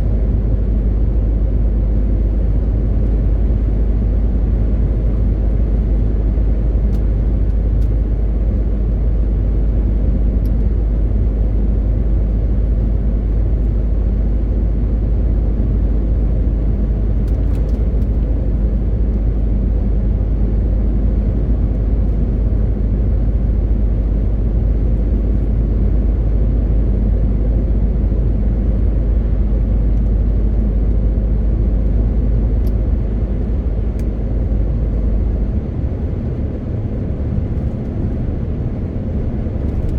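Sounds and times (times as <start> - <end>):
road and tyre noise: 0.0 - 39.9
truck diesel engine rumble: 0.0 - 39.9.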